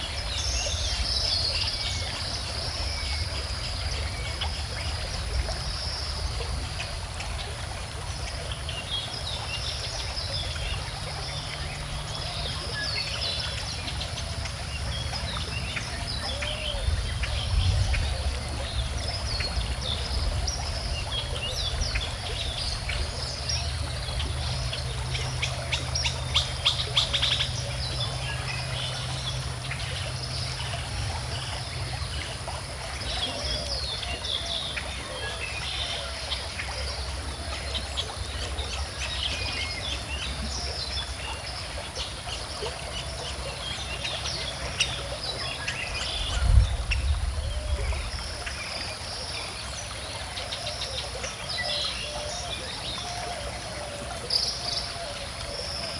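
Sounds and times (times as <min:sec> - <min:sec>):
river flowing: 0:00.0 - 0:55.9.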